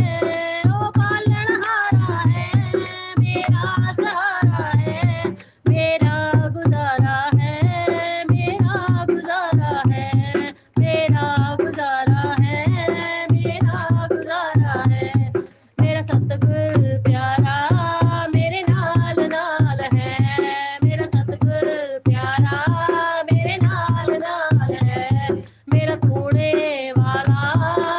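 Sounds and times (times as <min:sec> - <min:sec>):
tabla rhythm: 0:00.0 - 0:27.9.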